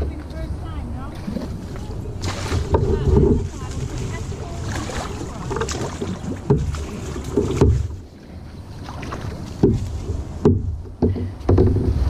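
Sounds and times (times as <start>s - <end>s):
paddle strokes in water: 0.0s - 12.0s
steady low rumble: 0.0s - 12.0s
paddle knocking against hull: 1.1s - 12.0s.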